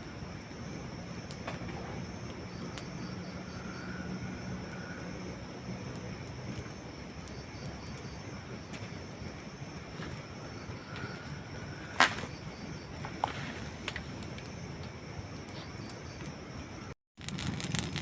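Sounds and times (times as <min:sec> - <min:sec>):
campfire hissing: 0:00.0 - 0:18.0
campfire pops: 0:00.0 - 0:18.0.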